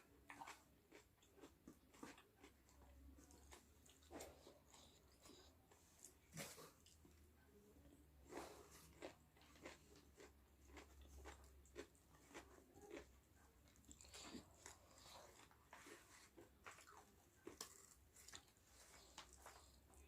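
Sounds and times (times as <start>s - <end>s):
chewing crispy chicken: 0.0s - 7.2s, 8.2s - 20.0s.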